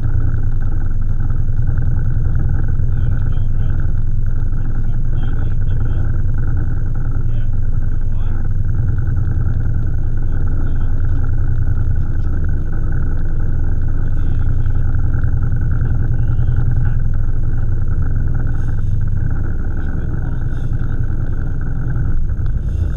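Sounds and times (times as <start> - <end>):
boat engine droning: 0.0 - 22.9.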